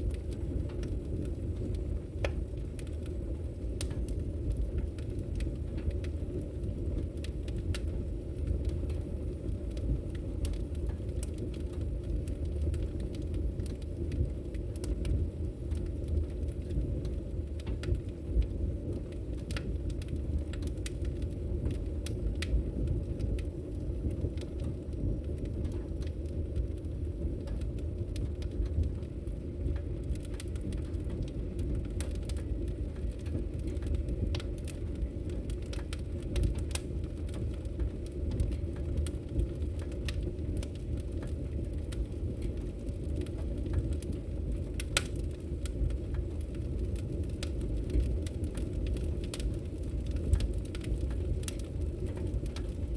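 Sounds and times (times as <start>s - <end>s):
roar of flames: 0.0s - 52.9s
wood fire popping and crackling: 0.0s - 52.9s.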